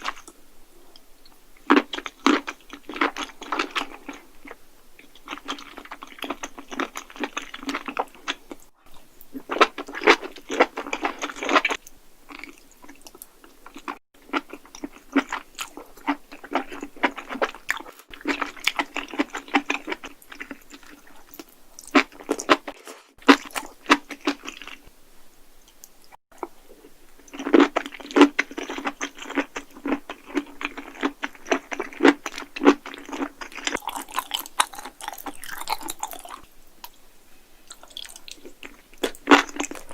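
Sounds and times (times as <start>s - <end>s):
crunchy chewing: 0.0s - 24.9s, 25.7s - 37.0s, 37.7s - 39.9s.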